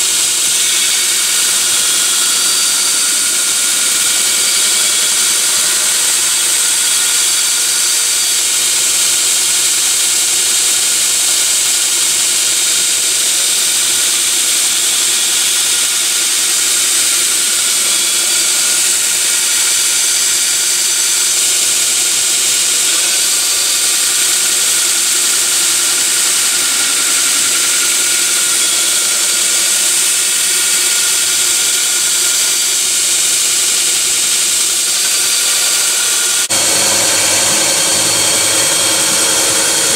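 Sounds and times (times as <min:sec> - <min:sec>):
belt grinder grinding steel: 0:00.0 - 0:39.9.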